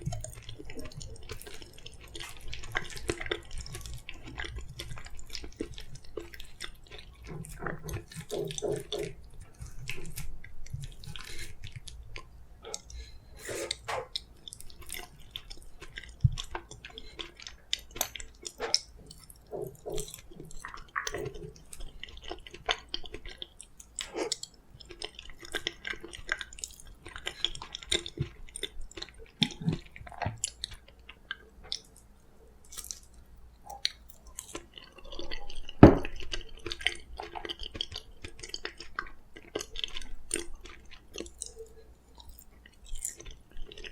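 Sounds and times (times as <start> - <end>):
wet chewing mouth sounds: 0.0 - 43.9.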